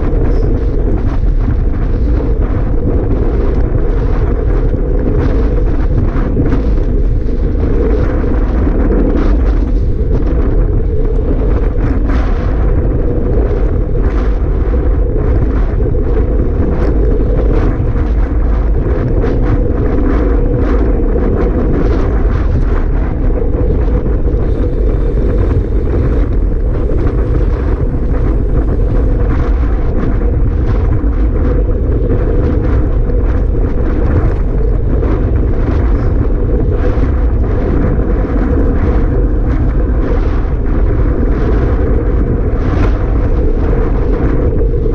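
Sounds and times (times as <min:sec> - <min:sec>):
strong wind on microphone: 0:00.0 - 0:44.9.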